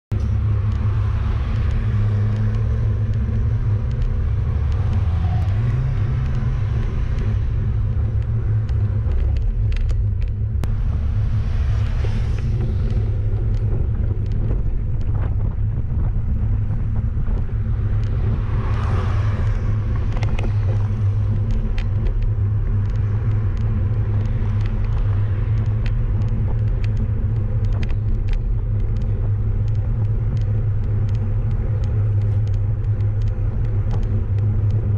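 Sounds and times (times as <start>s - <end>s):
wind and road rumble: 0.1s - 34.9s.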